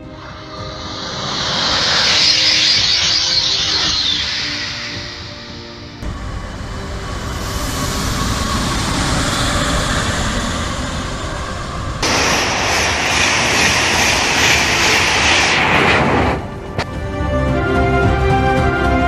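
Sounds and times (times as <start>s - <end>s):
high-speed train passing: 0.0s - 17.9s.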